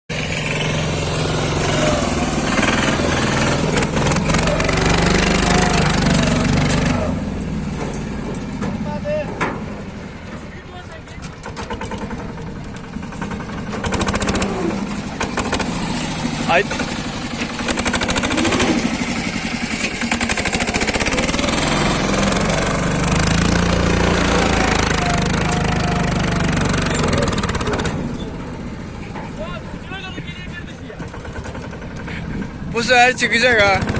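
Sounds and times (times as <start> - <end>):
diesel tractor engine running: 0.1 - 33.9.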